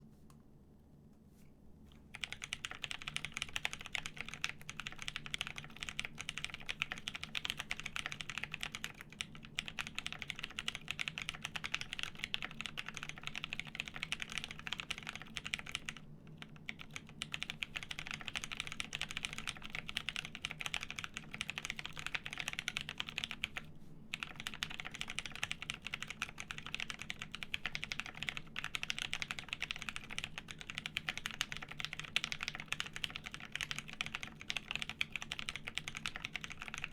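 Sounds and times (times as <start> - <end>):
mechanical keyboard typing: 2.1 - 36.9.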